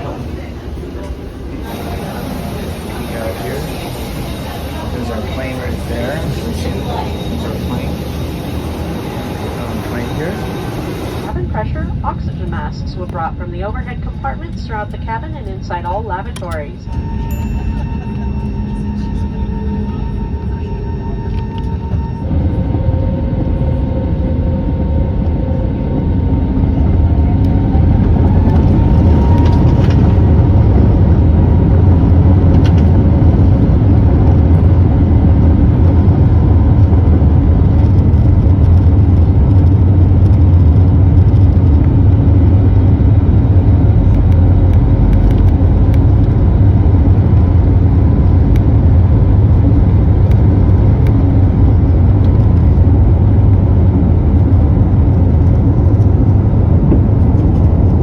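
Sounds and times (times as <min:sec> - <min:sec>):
jet engines spooling up: 0:00.0 - 0:58.0
jet takeoff roll rumble: 0:00.0 - 0:58.0.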